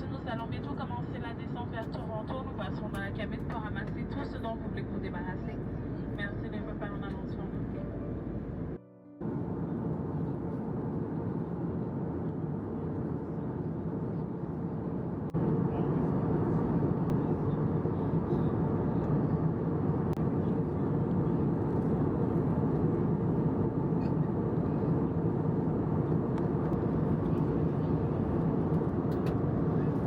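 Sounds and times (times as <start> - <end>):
airliner cabin engine drone: 0.0 - 30.0.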